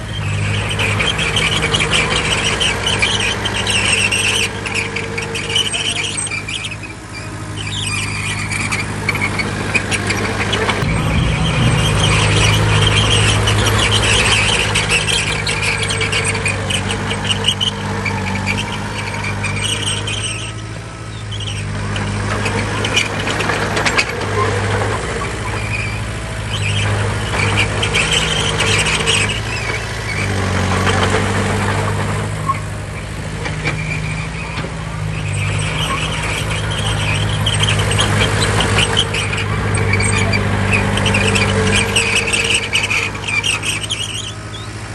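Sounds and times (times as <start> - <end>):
heavy diesel machinery engine: 0.0 - 44.9
high metallic squealing: 0.0 - 44.9.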